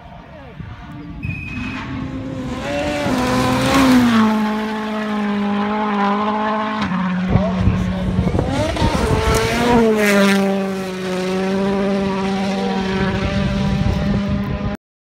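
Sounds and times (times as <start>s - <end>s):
rally car passing at speed: 0.7s - 14.8s.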